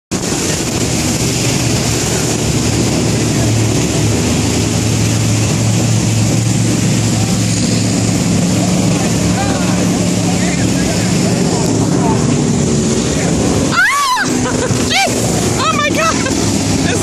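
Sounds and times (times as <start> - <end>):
motorboat engine droning: 0.1 - 17.0
rushing wind and water: 0.1 - 17.0.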